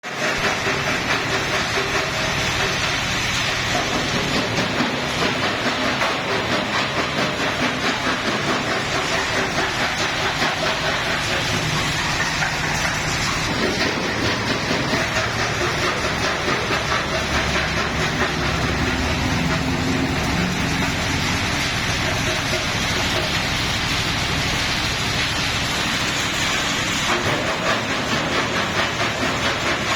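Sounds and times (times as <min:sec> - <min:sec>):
stone crusher clattering: 0:00.1 - 0:29.9.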